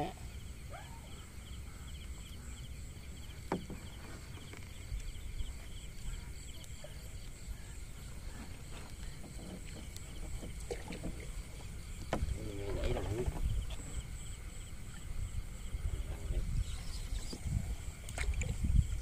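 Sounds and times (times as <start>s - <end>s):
night insects chirping: 0.0s - 19.0s.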